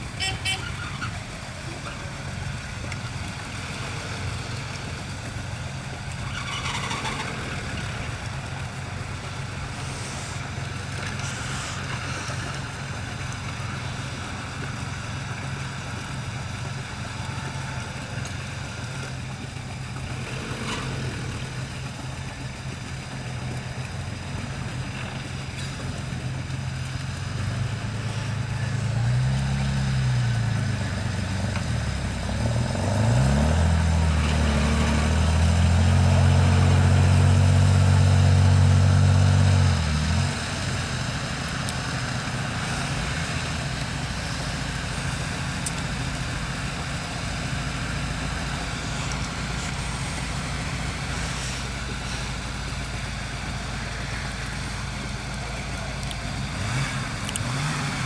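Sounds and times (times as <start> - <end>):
engine idling and revving: 0.0 - 58.0.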